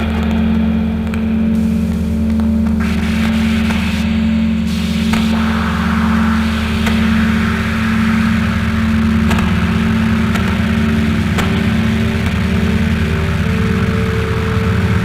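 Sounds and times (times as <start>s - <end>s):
low drone music: 0.0s - 15.0s
hiss: 1.6s - 15.0s.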